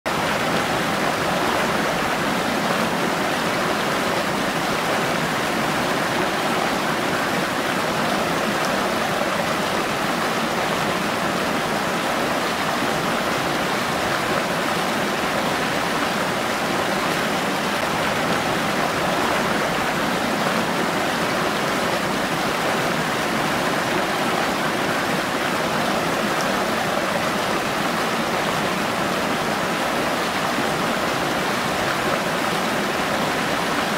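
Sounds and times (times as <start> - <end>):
river water rushing over weir: 0.1 - 33.9.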